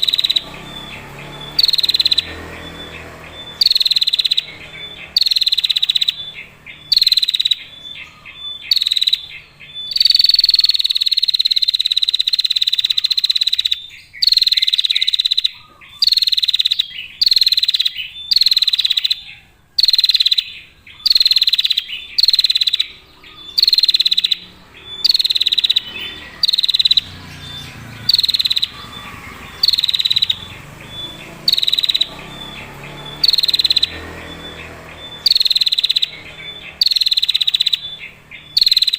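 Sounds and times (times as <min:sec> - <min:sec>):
bird rapid trilling call: 0:00.0 - 0:38.9.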